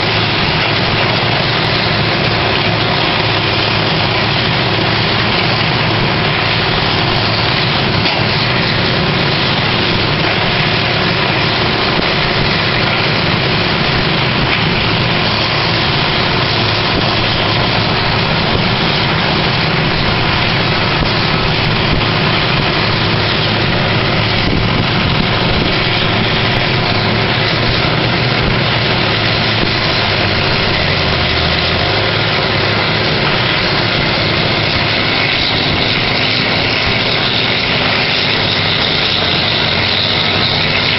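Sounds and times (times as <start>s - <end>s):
diesel engines droning: 0.0s - 40.9s.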